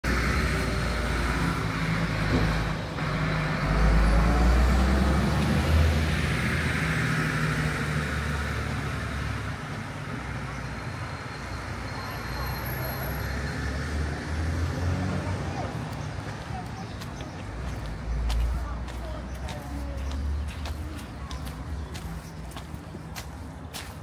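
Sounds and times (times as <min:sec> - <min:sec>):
heavy vehicle engine passing: 0:00.0 - 0:20.5.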